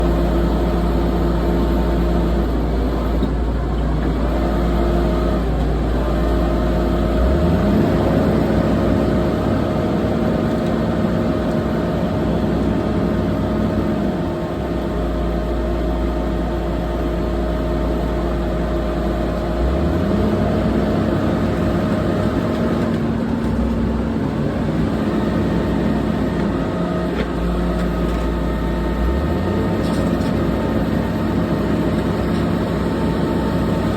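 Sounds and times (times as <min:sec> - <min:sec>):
bulldozer diesel engine running hard: 0:00.0 - 0:33.9.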